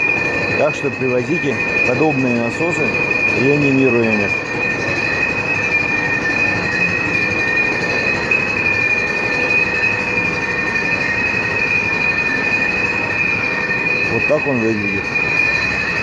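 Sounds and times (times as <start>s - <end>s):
high-pitched two-tone whine: 0.0s - 16.0s
machinery noise: 0.0s - 16.0s.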